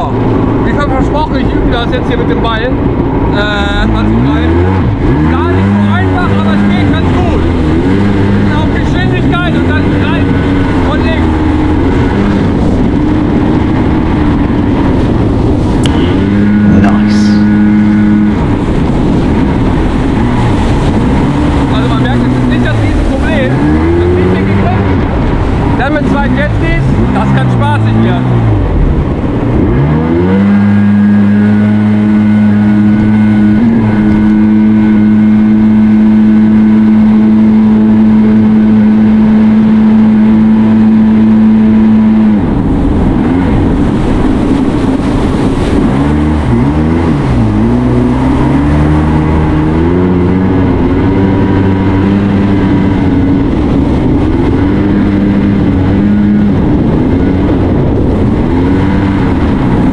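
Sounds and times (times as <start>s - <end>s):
watercraft engine revving: 0.0s - 59.9s.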